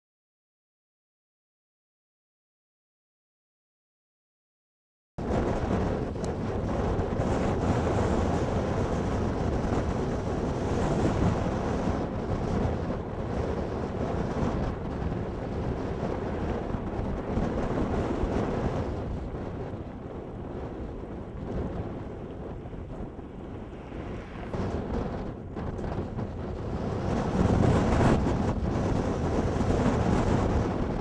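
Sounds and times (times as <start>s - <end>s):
wind blowing hard across microphone: 5.2s - 31.0s.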